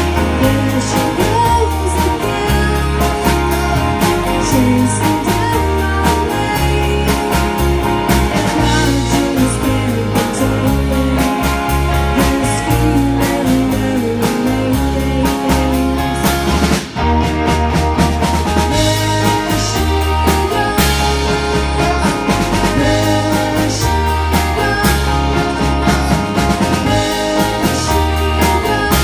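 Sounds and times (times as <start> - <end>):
person singing: 0.0 - 16.7, 18.7 - 29.0
live band playing: 0.0 - 29.0.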